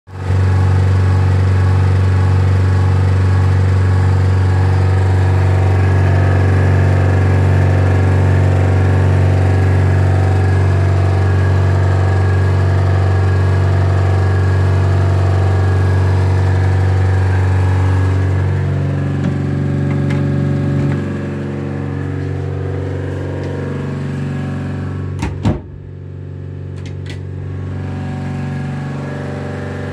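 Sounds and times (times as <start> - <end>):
ventilation fan humming: 0.2 - 29.9.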